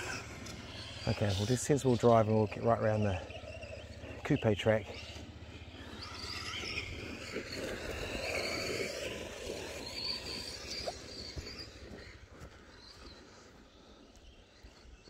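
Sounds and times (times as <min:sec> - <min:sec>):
electric motor whining: 0:00.0 - 0:12.3.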